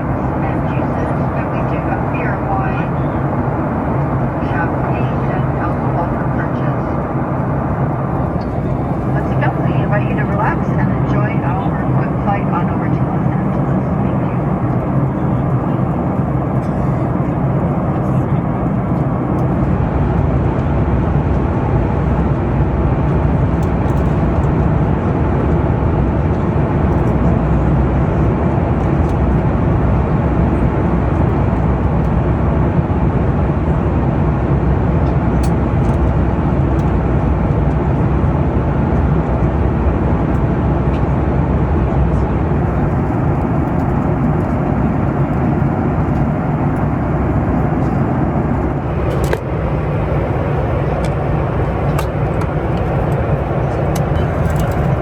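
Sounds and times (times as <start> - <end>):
airplane cabin engine hum: 0.0 - 55.0.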